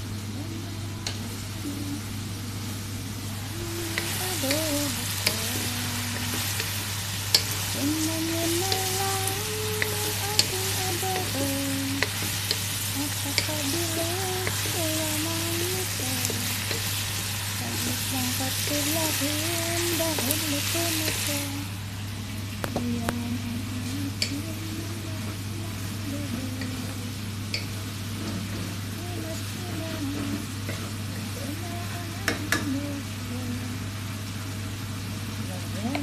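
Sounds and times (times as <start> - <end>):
chicken sizzling in a wok: 0.0 - 36.0.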